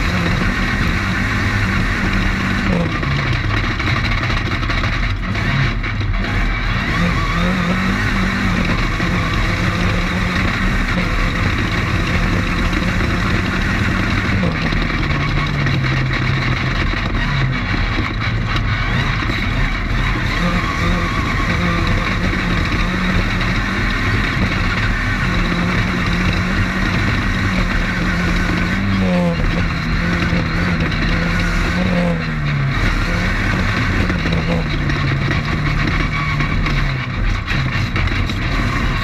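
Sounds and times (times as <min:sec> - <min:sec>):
race car engine drone: 0:00.0 - 0:39.0.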